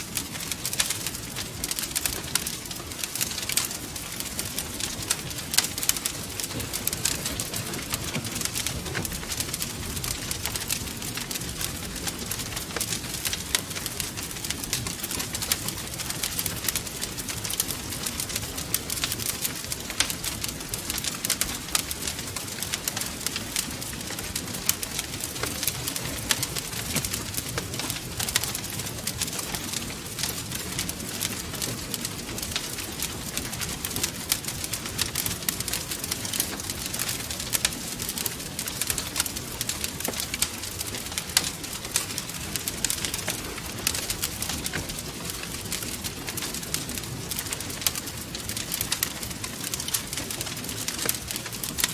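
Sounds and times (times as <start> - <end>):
low hiss and rumble of burning: 0.0 - 51.9
wood fire crackling and popping: 0.0 - 51.9.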